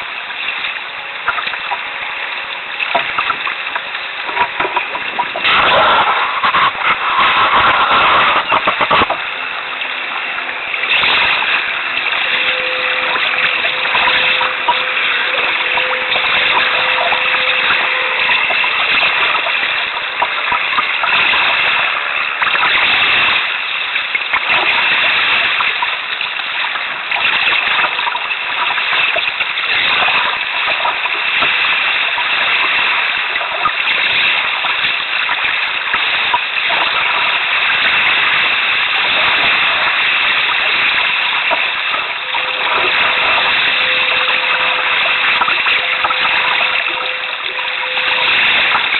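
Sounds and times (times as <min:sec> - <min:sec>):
short water splashes: 0:00.0 - 0:48.9
water rushing around a canoe: 0:00.0 - 0:48.9.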